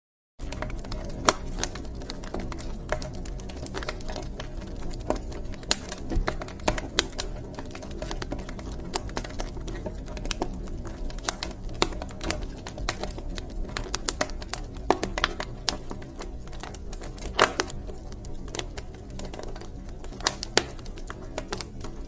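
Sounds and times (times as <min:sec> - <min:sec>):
low rumble of burning logs: 0:00.4 - 0:22.0
wood fire crackling: 0:00.4 - 0:22.0.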